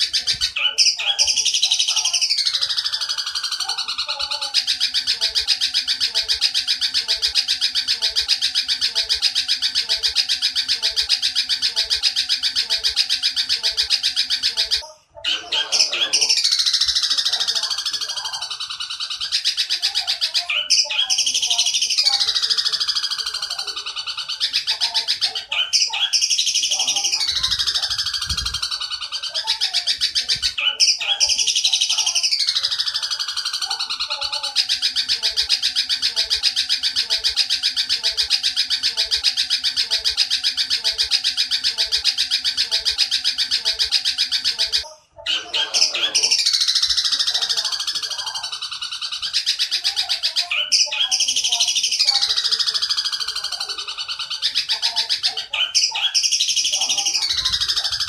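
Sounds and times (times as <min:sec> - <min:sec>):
sparrow buzzy chatter: 0:00.0 - 0:58.0.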